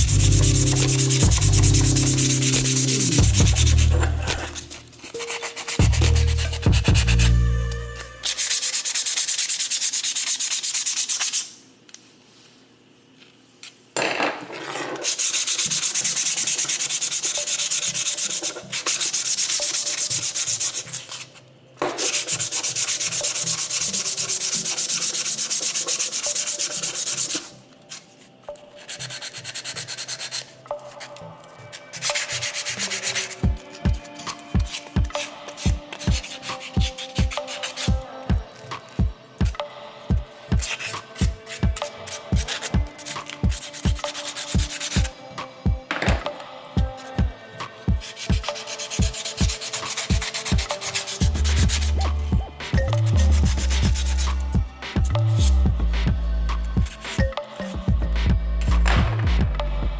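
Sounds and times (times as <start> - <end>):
abrasive sanding metal: 0.0 - 11.6, 15.0 - 21.3, 22.0 - 27.6, 28.7 - 39.0, 39.7 - 45.3, 46.9 - 55.7.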